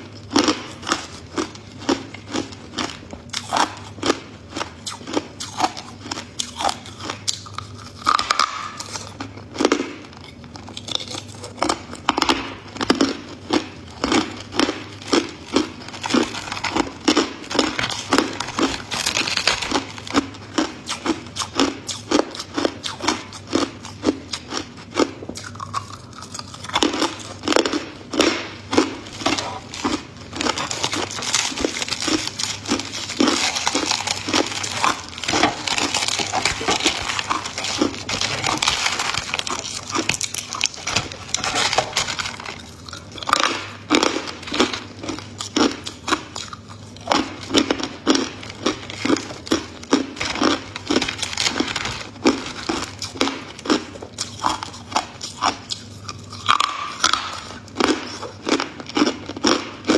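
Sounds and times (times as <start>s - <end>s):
person crunching ice: 10.7s - 59.9s.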